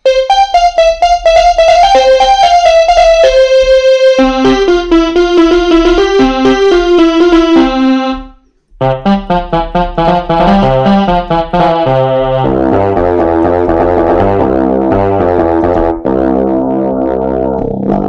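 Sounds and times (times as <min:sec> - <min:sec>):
electronic keyboard melody: 0:00.0 - 0:18.0
keyboard bass notes: 0:00.0 - 0:18.0.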